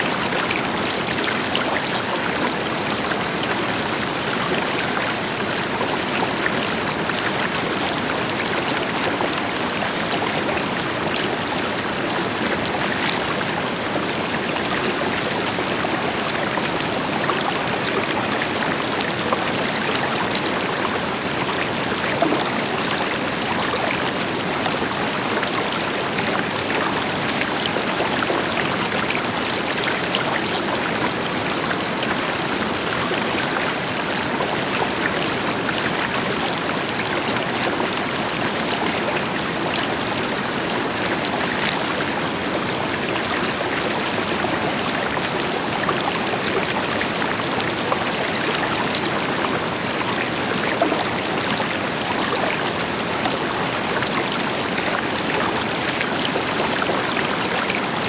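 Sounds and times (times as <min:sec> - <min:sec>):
river flowing over rocks: 0:00.1 - 0:58.0.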